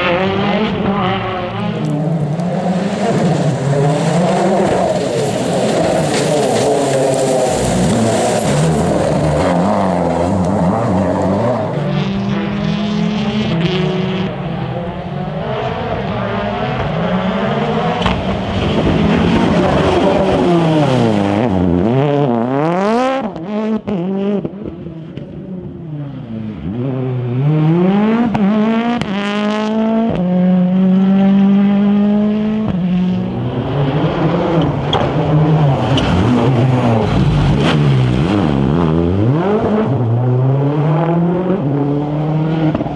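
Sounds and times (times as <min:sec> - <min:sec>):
rally car engines at full throttle: 0:00.0 - 0:42.9.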